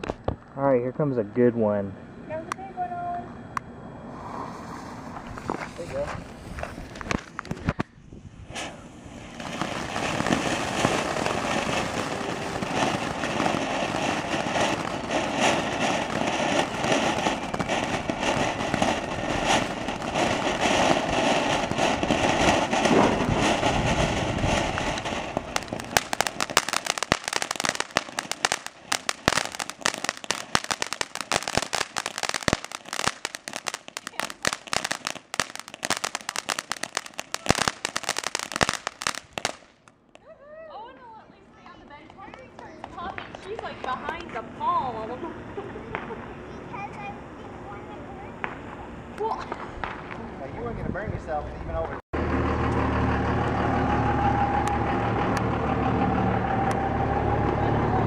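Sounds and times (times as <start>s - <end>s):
firework crackling pops: 0.0s - 0.5s, 3.5s - 50.5s
firework fountain hissing: 3.9s - 50.5s.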